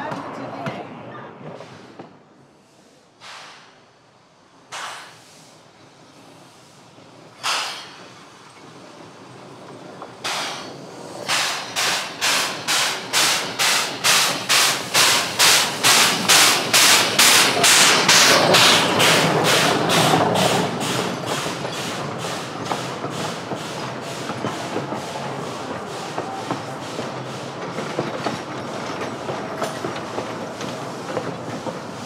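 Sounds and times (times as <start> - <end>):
steam locomotive chuffing: 2.7 - 32.0.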